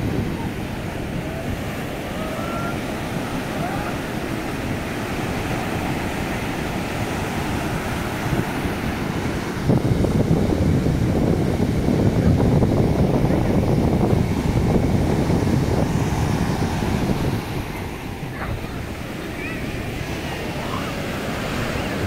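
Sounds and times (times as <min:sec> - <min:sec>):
sea surf breaking: 0:00.0 - 0:22.0
wind buffeting microphone: 0:00.0 - 0:22.0.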